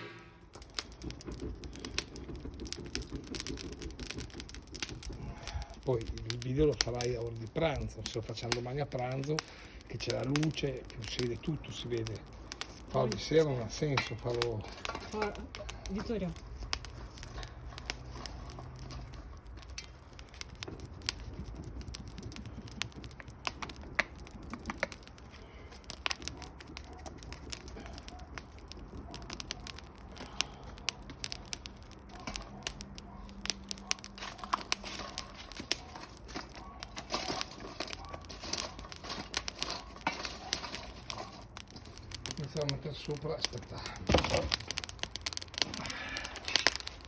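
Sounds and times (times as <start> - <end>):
crinkling and rustling handling: 0.5 - 47.0.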